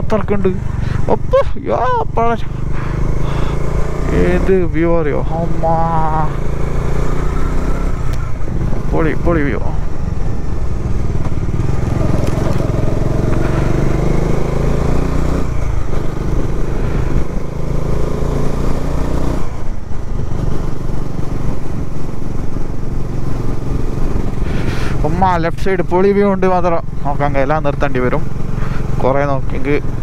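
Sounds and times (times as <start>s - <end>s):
motorcycle engine running: 0.0s - 30.0s
road and wind noise: 0.0s - 30.0s.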